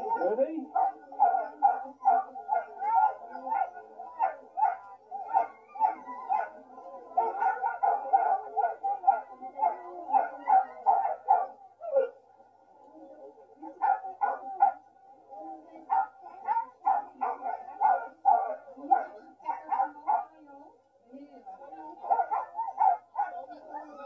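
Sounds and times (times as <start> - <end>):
huskies barking and yapping: 0.0 - 12.4, 13.0 - 20.4, 21.8 - 24.0.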